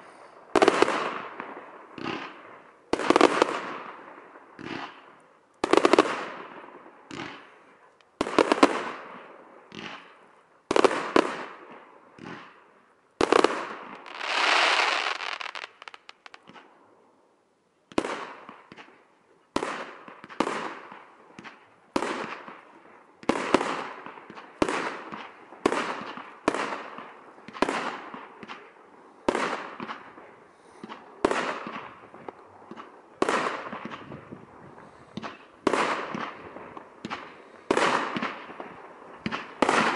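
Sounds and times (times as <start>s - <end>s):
fireworks bursting: 0.0s - 12.6s, 13.2s - 16.7s, 19.6s - 39.9s.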